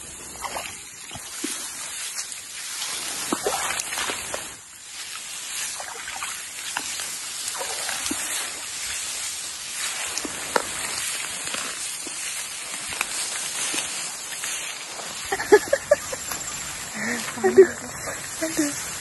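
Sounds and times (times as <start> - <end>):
grass and reeds rustling: 0.0 - 19.0.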